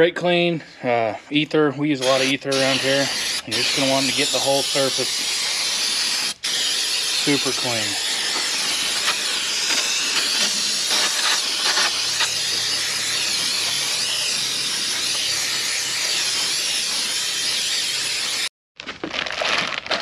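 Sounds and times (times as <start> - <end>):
aerosol spray hissing: 2.0 - 18.5.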